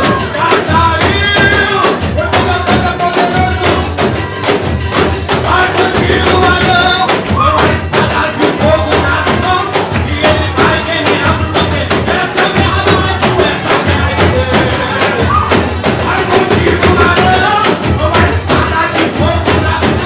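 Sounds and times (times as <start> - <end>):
man singing into a microphone: 0.0 - 4.2, 5.2 - 20.0
bass beat: 0.0 - 20.0
tambourines shaken and struck: 0.0 - 20.0.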